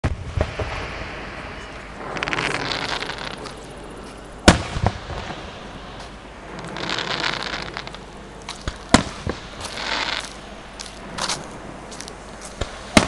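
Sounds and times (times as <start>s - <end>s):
firework sparks crackling: 0.0s - 13.0s.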